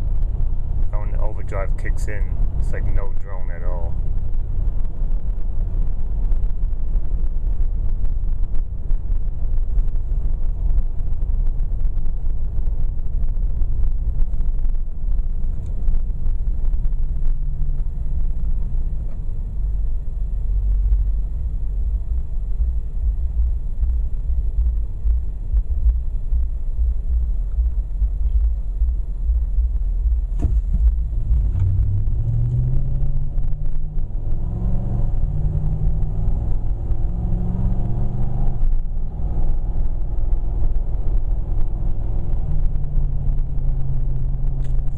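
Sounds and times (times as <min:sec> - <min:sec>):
car engine and exhaust rumble: 0:00.0 - 0:44.9.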